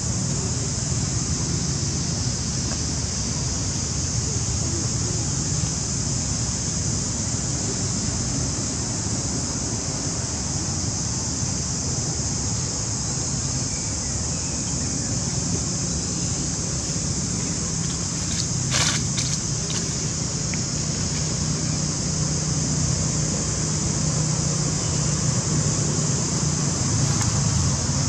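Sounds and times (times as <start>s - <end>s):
constant high hiss: 0.0s - 28.0s.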